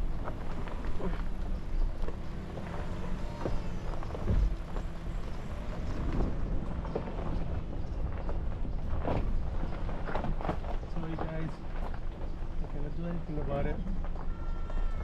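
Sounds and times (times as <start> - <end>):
knocks and rattles over ruts: 0.0 - 15.0
vehicle engine and tyres rumbling: 0.0 - 15.0.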